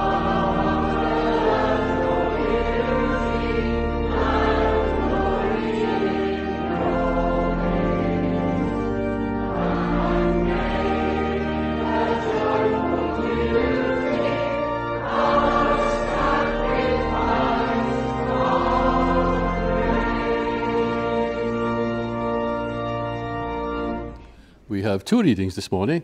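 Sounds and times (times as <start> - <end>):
choir singing a hymn: 0.0 - 24.1
organ accompaniment: 0.0 - 26.0.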